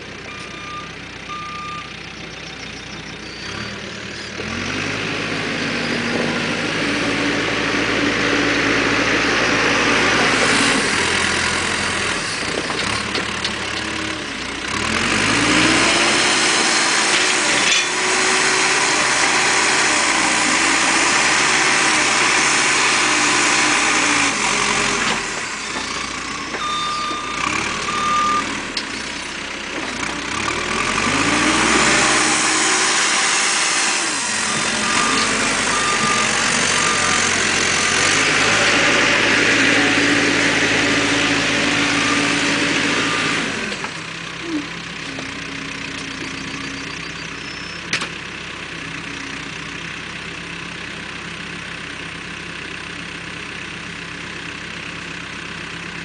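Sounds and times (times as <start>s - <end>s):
diesel engine revving and idling: 0.0s - 56.0s.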